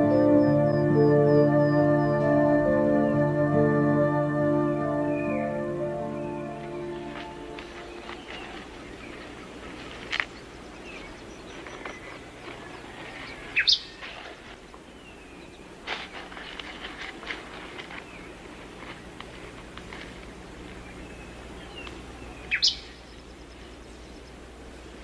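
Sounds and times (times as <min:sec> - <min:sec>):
background hiss: 0:00.0 - 0:25.0
birds calling: 0:00.0 - 0:25.0
birds chirping: 0:00.0 - 0:25.0.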